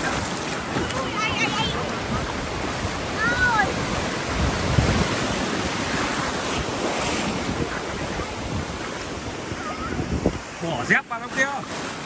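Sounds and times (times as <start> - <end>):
wind buffeting microphone: 0.0 - 10.8
surf washing onto beach: 0.0 - 12.0.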